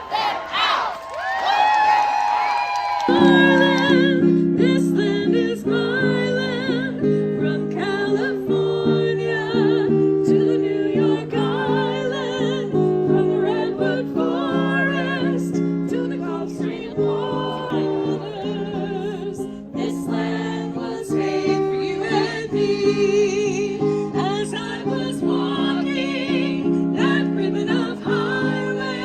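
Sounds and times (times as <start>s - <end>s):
person singing with vibrato: 3.1s - 29.0s.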